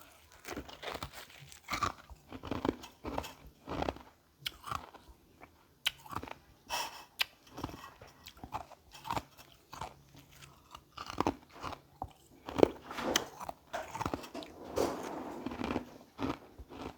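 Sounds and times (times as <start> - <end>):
ice being chewed: 0.0 - 16.9.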